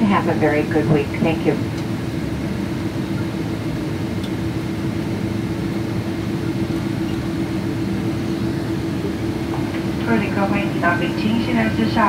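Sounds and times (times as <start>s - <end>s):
airliner cabin rumble: 0.0s - 12.0s
steady low hum: 0.0s - 12.0s.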